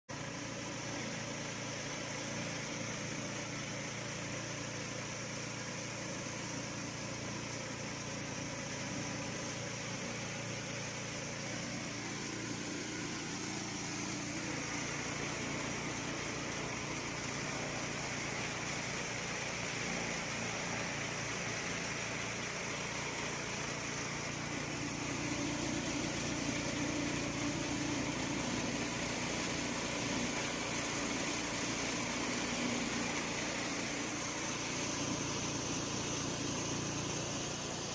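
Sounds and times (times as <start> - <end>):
small motor whining: 0.2 - 37.9.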